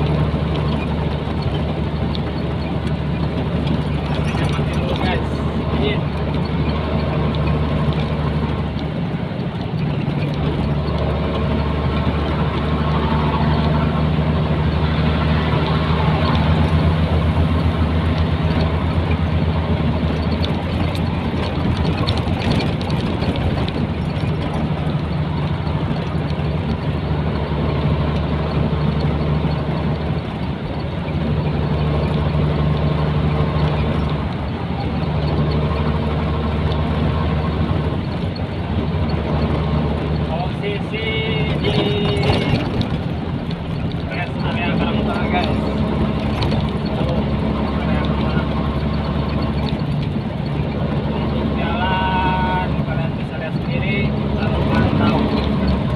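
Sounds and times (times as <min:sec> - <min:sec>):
road noise: 0:00.0 - 0:55.9
truck diesel engine running: 0:00.0 - 0:55.9.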